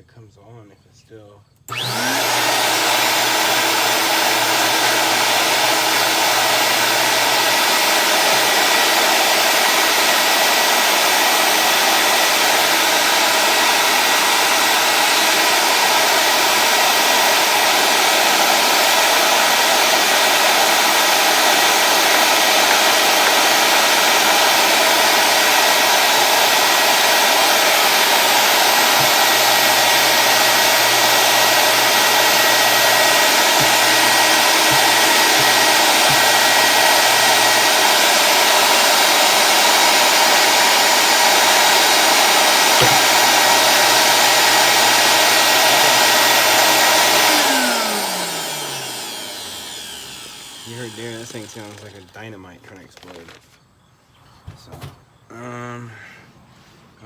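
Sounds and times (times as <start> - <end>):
vacuum cleaner motor running: 1.7 - 52.2.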